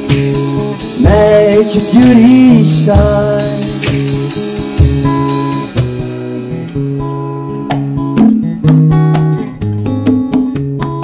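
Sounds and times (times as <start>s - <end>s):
acoustic guitar strumming: 0.0s - 11.0s
hand drums: 0.0s - 11.0s.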